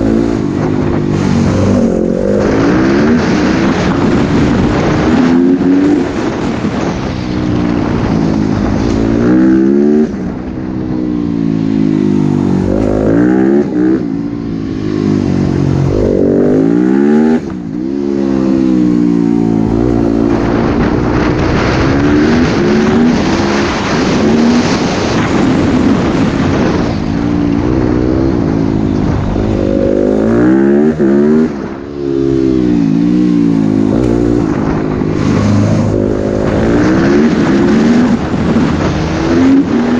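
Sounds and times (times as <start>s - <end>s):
dirt bike engine revving: 0.0s - 6.9s, 11.6s - 26.8s, 27.6s - 39.9s.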